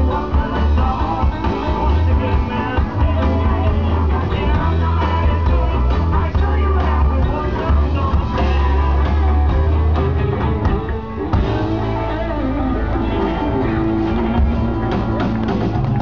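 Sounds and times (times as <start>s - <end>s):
rock music with guitar and bass: 0.0s - 16.0s.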